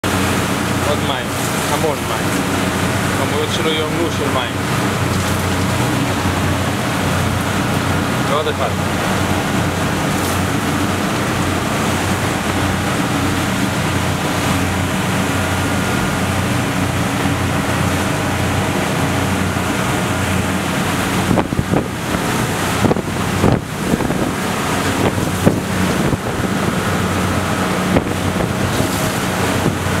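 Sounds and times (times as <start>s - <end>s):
boat engine drone: 0.0s - 30.0s
wind and water noise: 0.0s - 30.0s
wind buffeting microphone: 4.0s - 30.0s.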